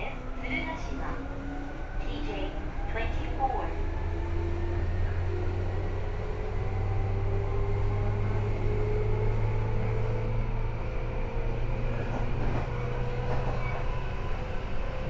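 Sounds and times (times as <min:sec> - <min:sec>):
low train hum: 0:00.0 - 0:15.0.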